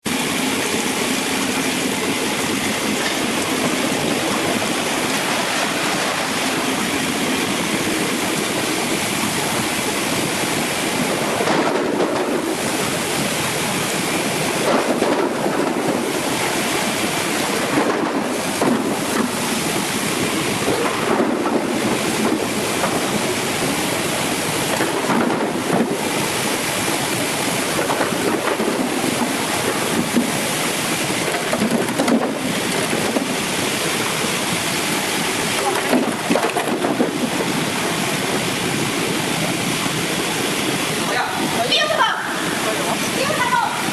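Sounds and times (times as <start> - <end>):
spraying and splashing water: 0.0 - 43.9
washing machine running: 0.0 - 43.9.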